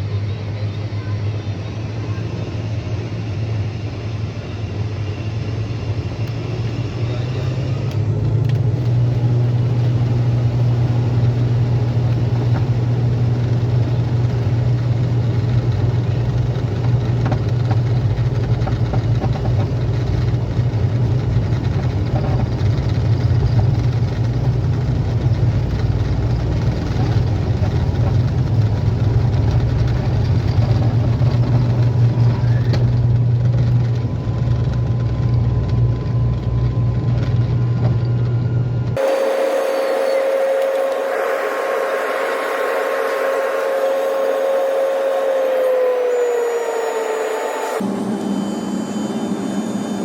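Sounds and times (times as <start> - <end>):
airliner engine rumble: 0.0 - 50.0.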